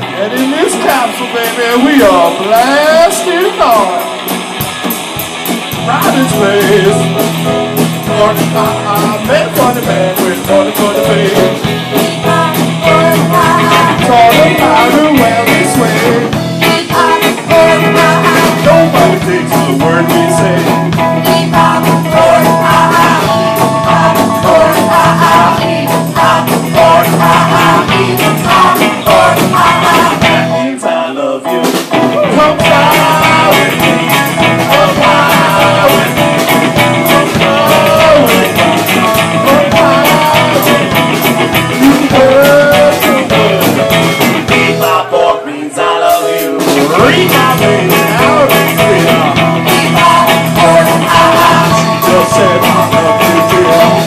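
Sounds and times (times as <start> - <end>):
bass: 0.0 - 54.0
electric guitar: 0.0 - 54.0
person singing into a microphone: 5.9 - 7.3, 8.0 - 54.0.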